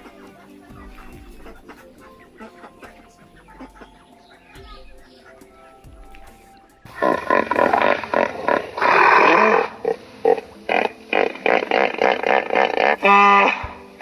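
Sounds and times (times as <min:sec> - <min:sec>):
animal calls: 0:00.0 - 0:14.0.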